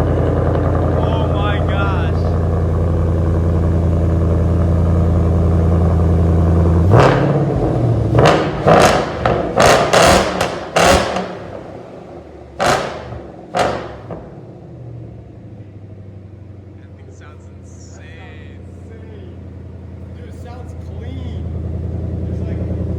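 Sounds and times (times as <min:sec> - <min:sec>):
car engine idling: 0:00.0 - 0:22.9
engine throttle blips: 0:00.0 - 0:22.9.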